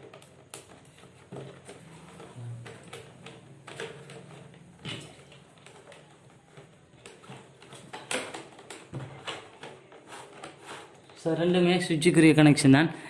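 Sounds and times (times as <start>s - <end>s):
wire clicks and rustles: 0.0s - 11.5s.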